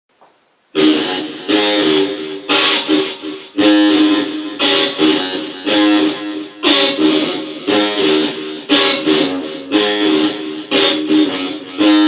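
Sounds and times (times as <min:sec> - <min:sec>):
blues guitar strumming chords: 0:00.7 - 0:12.0.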